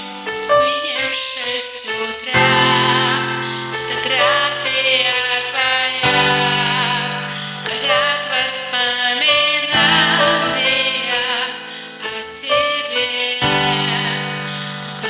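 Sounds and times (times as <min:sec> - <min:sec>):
karaoke backing track: 0:00.0 - 0:15.0
woman singing with vibrato: 0:00.0 - 0:15.0.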